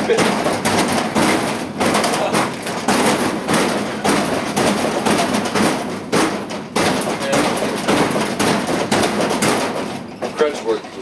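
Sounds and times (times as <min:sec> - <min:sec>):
heavy thumps on vending machine: 0:00.0 - 0:10.5.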